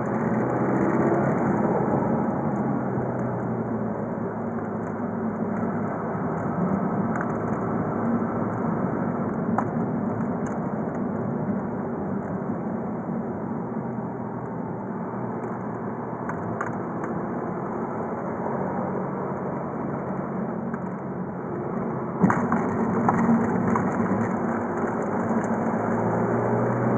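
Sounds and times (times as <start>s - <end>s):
road noise: 0.0s - 26.9s.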